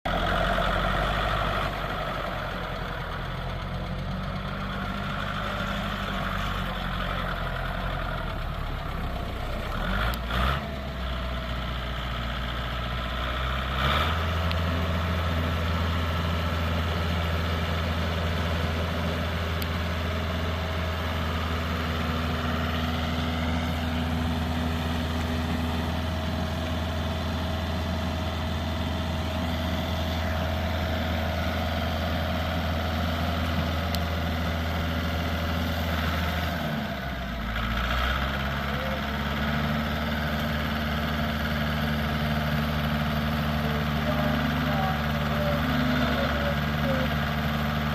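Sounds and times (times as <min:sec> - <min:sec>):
tractor diesel engine idling: 0:00.0 - 0:47.9.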